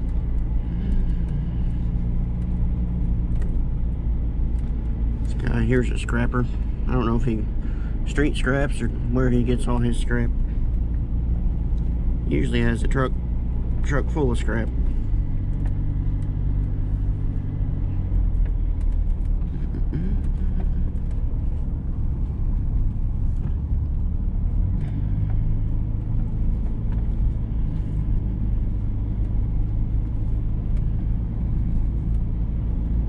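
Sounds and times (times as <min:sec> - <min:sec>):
pickup engine running: 0:00.0 - 0:33.0
tyres on road: 0:00.0 - 0:33.0.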